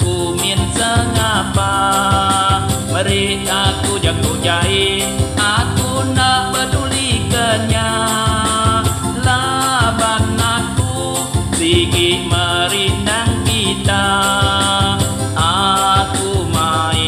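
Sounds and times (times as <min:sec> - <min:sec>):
band playing a steady beat: 0:00.0 - 0:17.0
man singing: 0:00.0 - 0:17.0.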